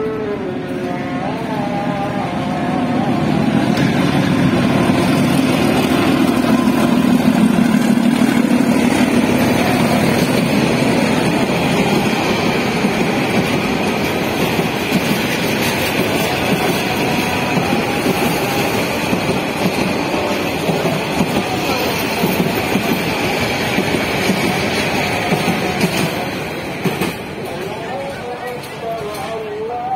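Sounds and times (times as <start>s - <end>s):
diesel locomotive engine drone: 0.0s - 29.9s
wheels hissing on rails: 0.0s - 29.9s.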